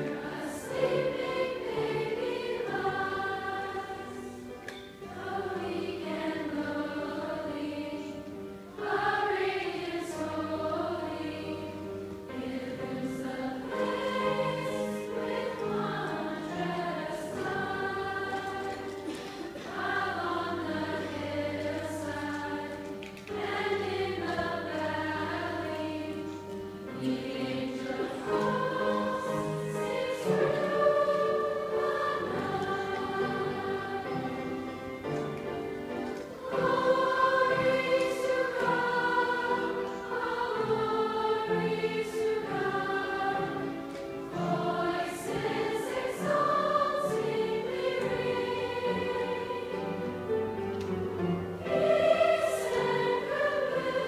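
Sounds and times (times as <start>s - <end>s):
girls' choir singing a carol: 0.0s - 54.0s.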